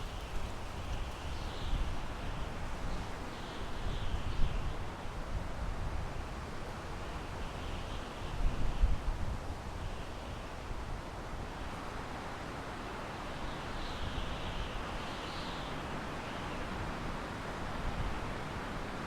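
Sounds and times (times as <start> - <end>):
wind through pine trees: 0.0 - 19.0.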